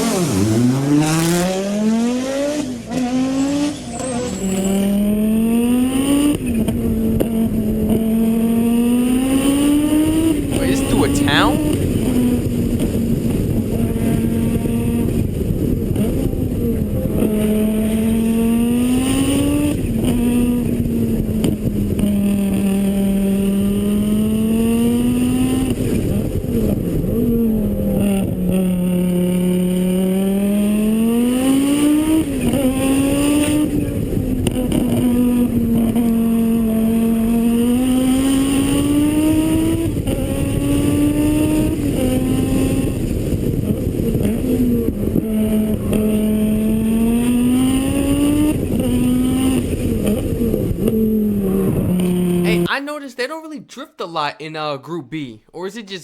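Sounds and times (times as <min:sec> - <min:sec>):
rally car engine revving: 0:00.0 - 0:52.7.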